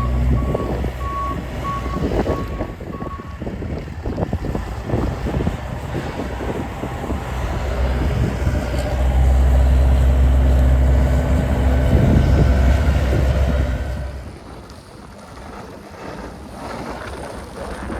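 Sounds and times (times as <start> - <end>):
snowplow truck engine drone: 0.0 - 14.7.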